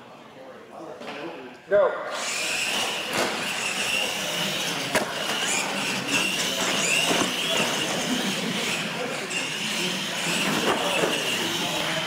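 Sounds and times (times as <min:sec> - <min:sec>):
toy truck motor whine: 0:02.1 - 0:12.0.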